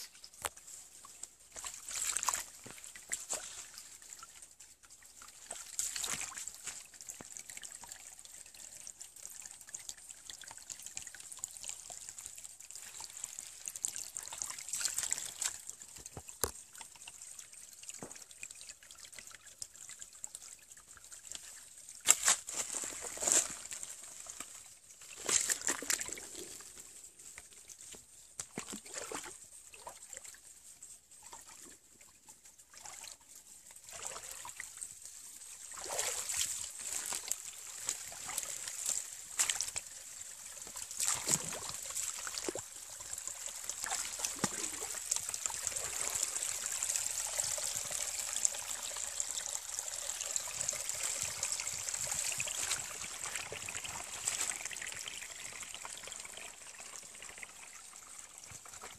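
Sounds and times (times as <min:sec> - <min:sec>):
stream trickling: 0:00.0 - 0:58.9
water splashes: 0:00.0 - 0:58.9.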